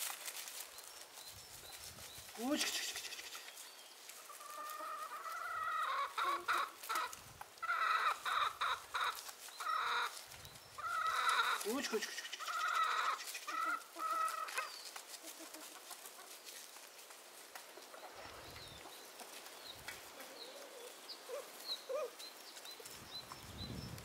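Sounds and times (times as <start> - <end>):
chickens clucking: 1.8 - 23.4.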